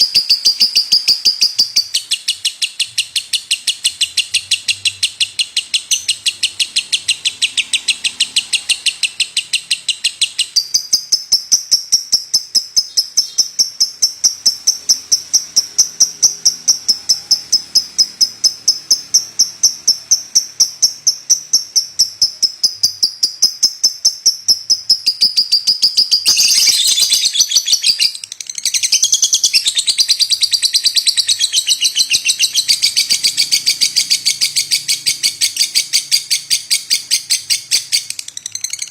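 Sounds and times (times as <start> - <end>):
lovebird chirping: 0.0 - 38.9.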